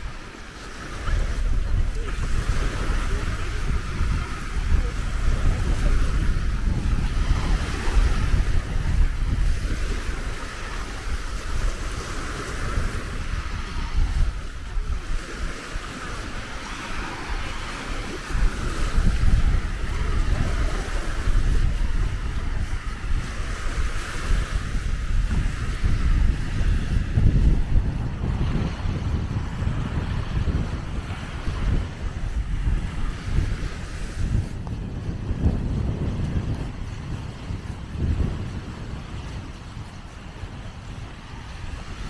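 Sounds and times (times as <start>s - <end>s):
sea waves on a beach: 0.0s - 42.0s
wind buffeting microphone: 0.0s - 42.0s.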